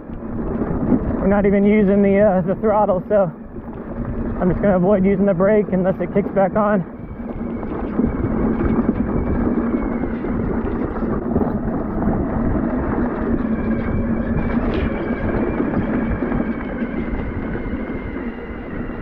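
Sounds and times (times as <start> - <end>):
faint steady whine: 0.0 - 19.0
tyres rumbling over dirt: 0.0 - 19.0
wind on microphone: 0.0 - 19.0.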